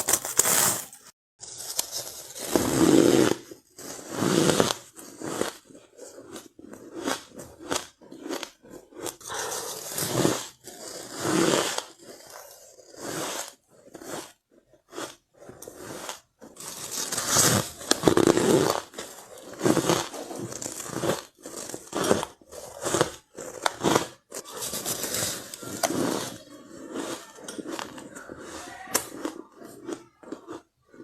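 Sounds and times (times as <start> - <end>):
chewing crunchy ice: 1.5 - 31.0.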